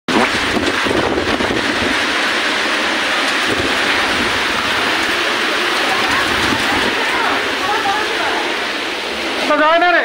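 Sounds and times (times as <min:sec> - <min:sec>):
heavy rain: 0:00.1 - 0:10.0
wind: 0:00.1 - 0:10.0.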